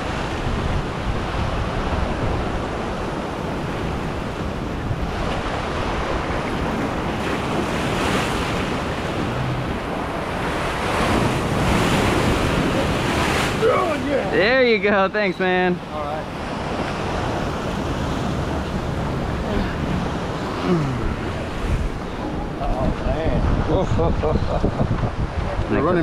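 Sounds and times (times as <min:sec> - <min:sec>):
ocean surf washing around rocks: 0:00.0 - 0:26.0.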